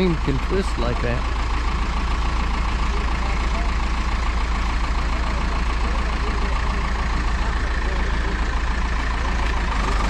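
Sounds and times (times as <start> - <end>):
heavy engine idling: 0.0 - 10.0.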